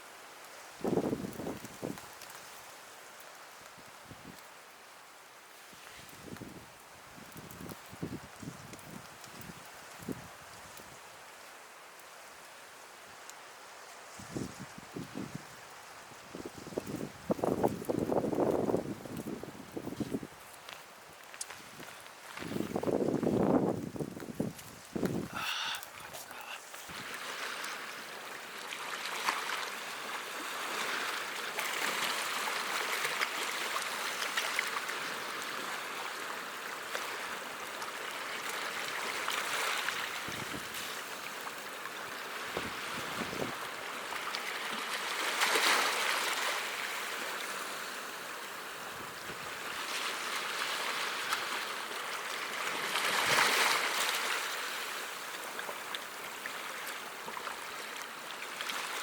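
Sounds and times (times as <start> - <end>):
sea waves washing ashore: 9.2 - 59.0.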